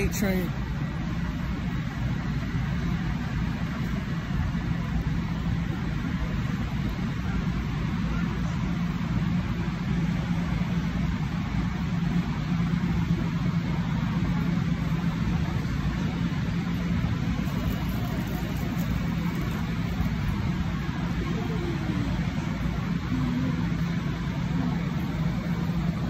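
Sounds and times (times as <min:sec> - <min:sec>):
idling machinery hum: 0:00.0 - 0:26.0
steady low rumble: 0:00.0 - 0:26.0.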